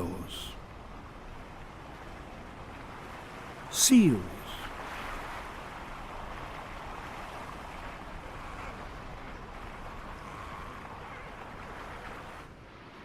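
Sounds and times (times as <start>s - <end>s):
ocean waves and surf: 0.0s - 13.0s.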